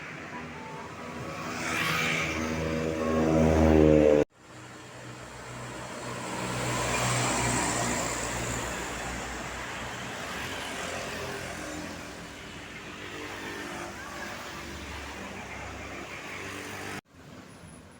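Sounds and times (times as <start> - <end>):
road vehicle passing by: 0.8 - 17.7.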